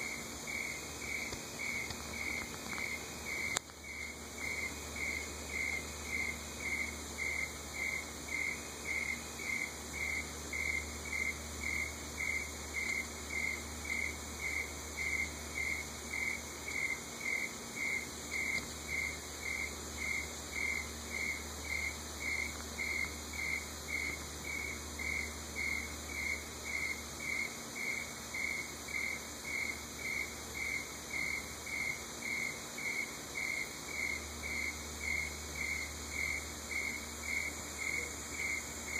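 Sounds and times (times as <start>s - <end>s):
high hum of insects: 0.0s - 38.9s
insect chirping: 0.0s - 38.9s.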